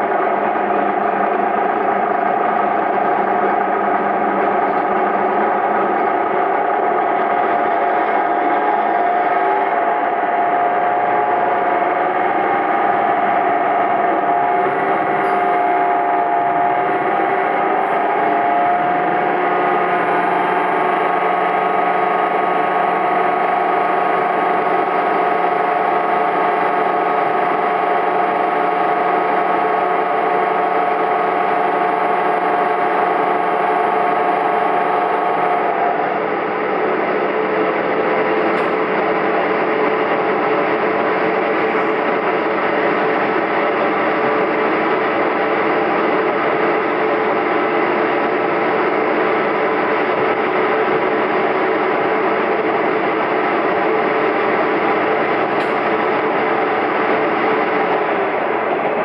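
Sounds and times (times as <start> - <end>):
railcar engine and wheels rumble: 0.0 - 59.0
whine of held tones: 0.0 - 59.0.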